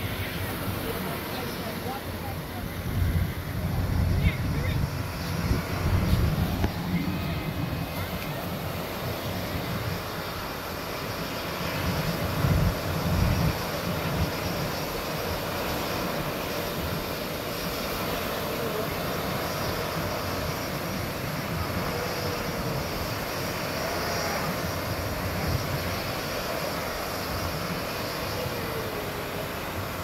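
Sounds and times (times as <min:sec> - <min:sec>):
distant jet engines droning: 0:00.0 - 0:30.0.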